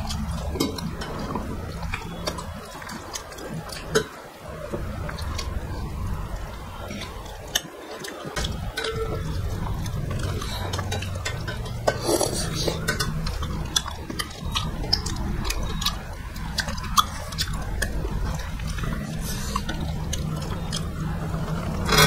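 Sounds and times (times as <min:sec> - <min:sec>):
hands mixing wet food: 0:00.0 - 0:22.0
steady low hum: 0:00.0 - 0:22.0.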